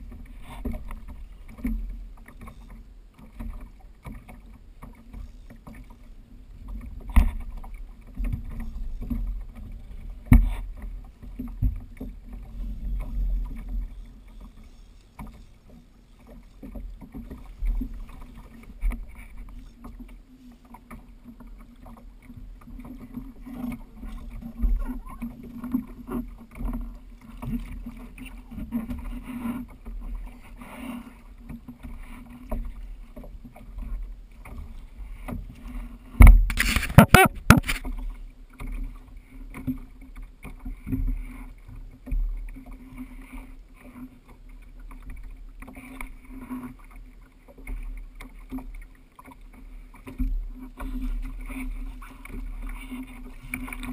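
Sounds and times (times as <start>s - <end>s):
wind and water rumble: 0.0s - 53.9s.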